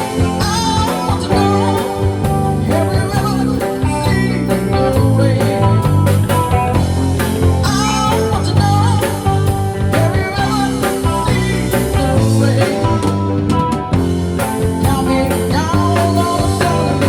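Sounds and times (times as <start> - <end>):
person singing: 0.0 - 13.6, 14.4 - 17.0
rock band playing: 0.0 - 17.0.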